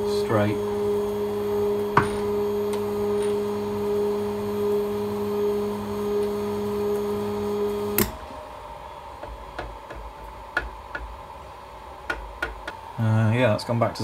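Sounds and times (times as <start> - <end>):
drill press motor humming: 0.0 - 13.6.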